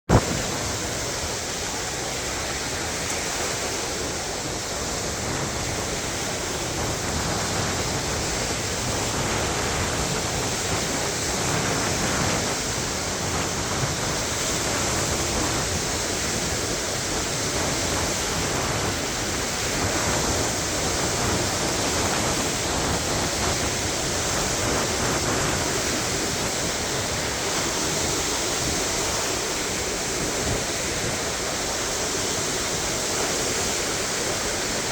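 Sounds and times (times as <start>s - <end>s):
waves washing onto shore: 0.1s - 34.9s.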